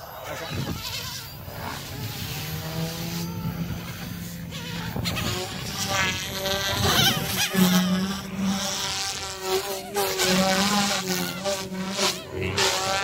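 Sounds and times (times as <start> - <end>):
rc helicopter motor buzzing: 0.0 - 13.0.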